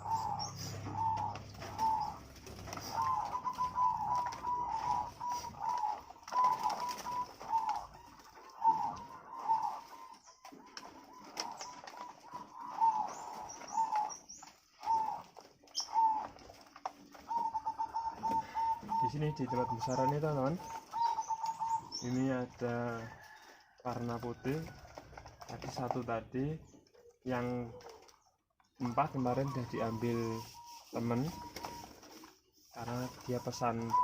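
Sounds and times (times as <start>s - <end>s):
wings flapping: 0.0s - 28.2s, 28.8s - 34.0s
doves cooing: 0.0s - 34.0s.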